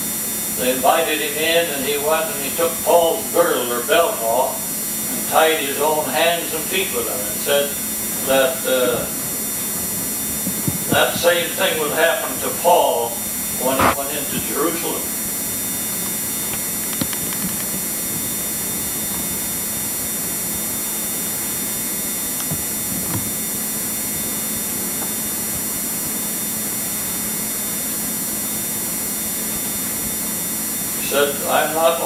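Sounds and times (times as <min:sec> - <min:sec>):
camcorder hiss and hum: 0:00.0 - 0:32.0.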